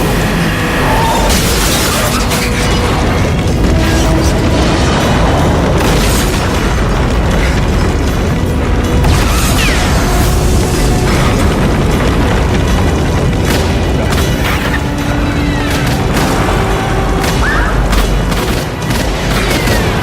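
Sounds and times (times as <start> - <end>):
deep booms and impacts: 0.0 - 20.0
orchestral film score: 0.0 - 20.0.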